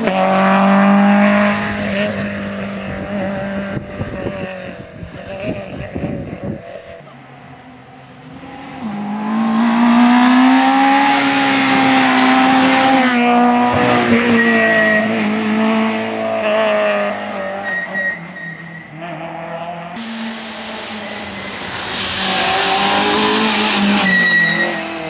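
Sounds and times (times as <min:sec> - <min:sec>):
rally car engine passing: 0:00.0 - 0:25.0.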